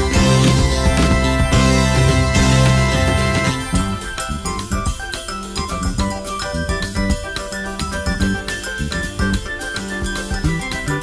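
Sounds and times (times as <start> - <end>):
instrumental music with drum beat: 0.0 - 11.0.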